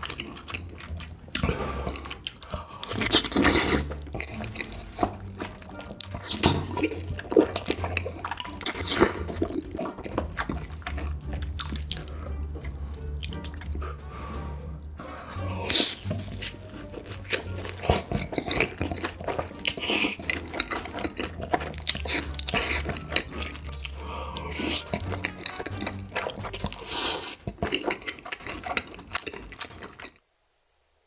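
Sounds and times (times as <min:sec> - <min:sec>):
person biting and chewing food: 0:00.0 - 0:14.1, 0:14.7 - 0:30.2.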